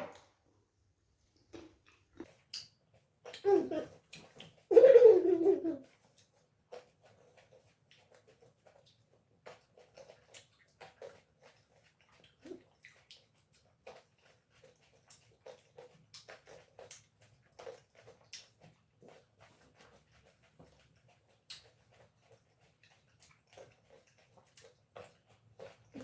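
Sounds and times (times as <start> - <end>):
people chewing and lip-smacking: 1.5 - 4.7, 5.8 - 26.0.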